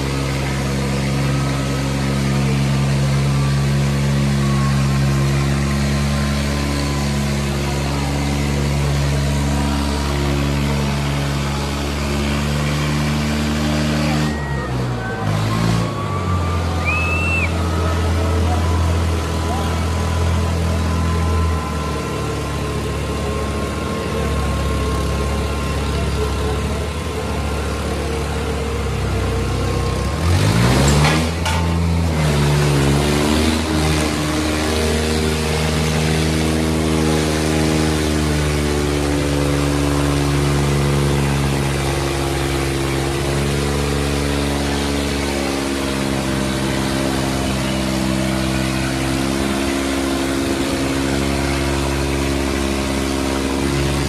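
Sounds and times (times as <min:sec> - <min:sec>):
diesel tractor engines under load: 0:00.0 - 0:54.0.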